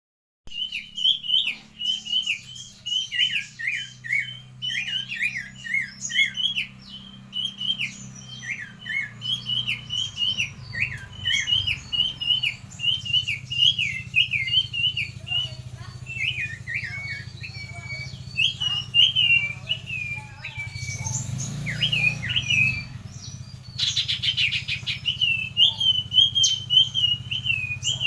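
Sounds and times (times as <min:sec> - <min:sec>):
songbird chirping: 0:00.5 - 0:28.0.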